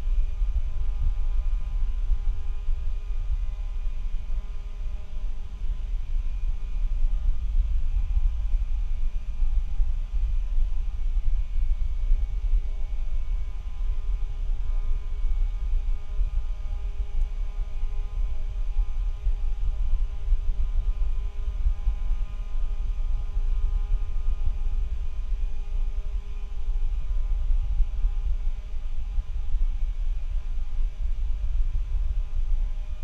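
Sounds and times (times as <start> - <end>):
faint hum tones: 0.0 - 33.0
low microphone rumble: 0.0 - 33.0.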